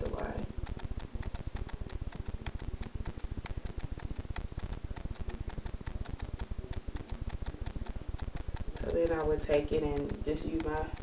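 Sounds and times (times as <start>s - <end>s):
rapid clicking: 0.0s - 11.0s.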